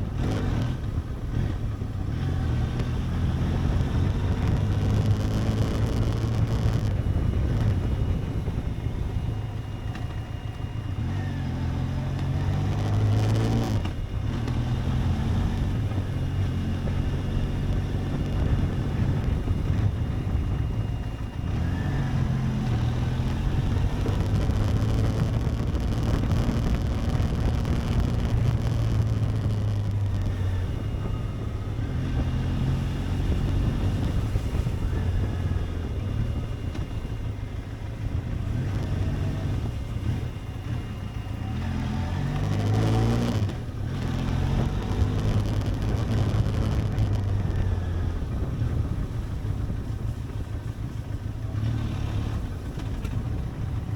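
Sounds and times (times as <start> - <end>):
motorcycle engine riding: 0.0 - 53.9.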